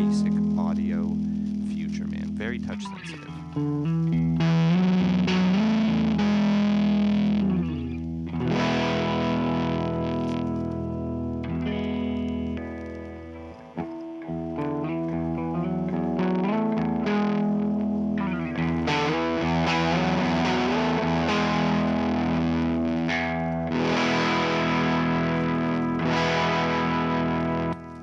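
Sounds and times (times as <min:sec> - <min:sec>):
distorted guitar chords: 0:00.0 - 0:28.0
electric guitar with string bends: 0:00.0 - 0:28.0.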